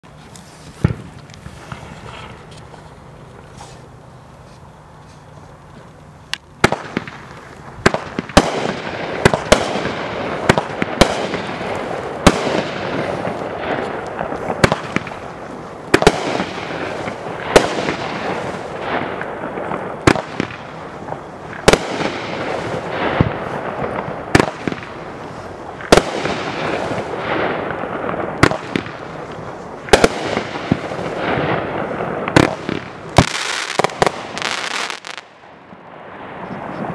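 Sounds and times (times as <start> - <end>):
firework hiss and crackle: 0.0 - 36.9
firework reports: 0.0 - 36.9.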